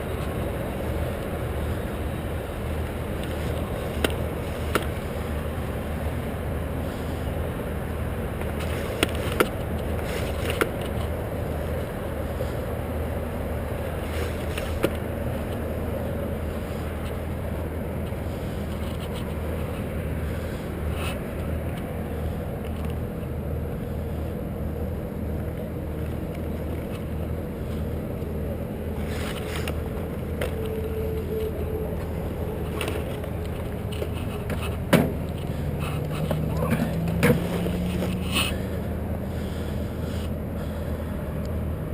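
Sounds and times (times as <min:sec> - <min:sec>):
low engine hum: 0:00.0 - 0:41.9.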